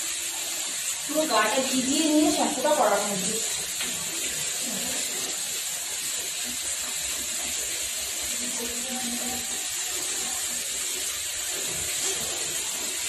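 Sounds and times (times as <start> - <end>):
tap running into bucket: 0.0 - 13.0.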